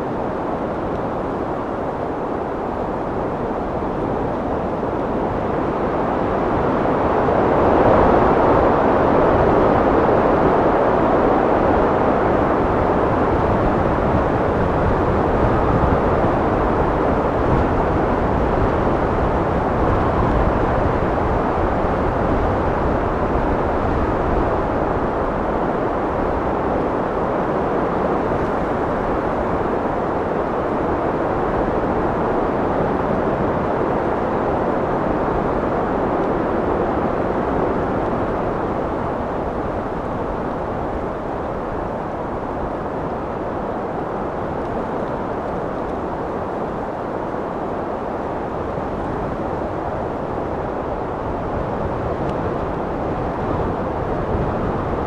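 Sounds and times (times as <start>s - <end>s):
strong wind blowing: 0.0s - 55.0s.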